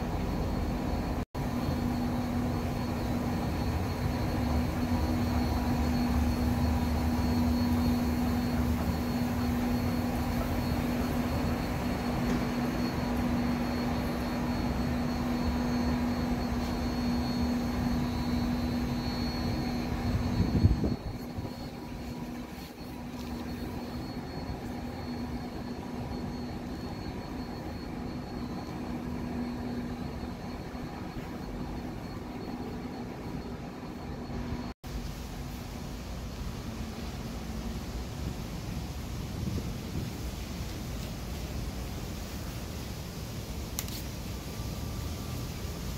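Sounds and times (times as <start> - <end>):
constant droning tone: 0.0 - 45.9
ventilation machinery hum and rumble: 0.0 - 45.9.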